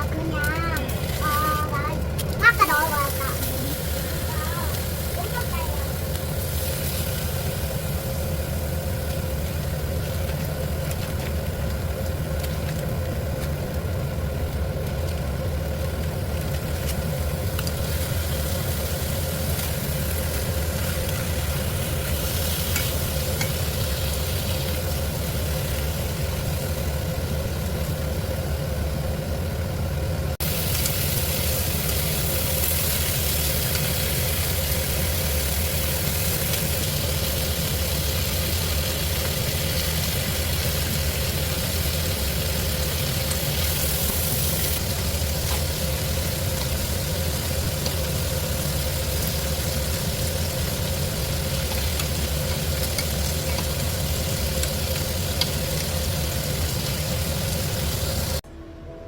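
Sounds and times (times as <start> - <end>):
food sizzling in a pan: 0.0 - 58.4
steady low hum: 0.0 - 59.0.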